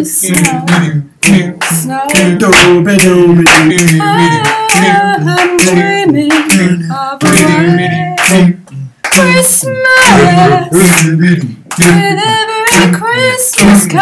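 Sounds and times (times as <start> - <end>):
voices singing in harmony: 0.0 - 14.0.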